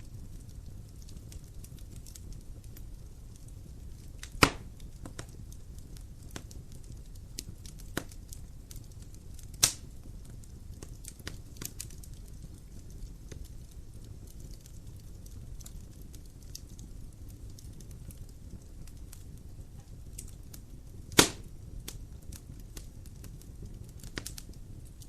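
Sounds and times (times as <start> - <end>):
fire crackles: 0.0 - 25.0
fire flames rumbling: 0.0 - 25.0
loud fire pops: 0.0 - 25.0.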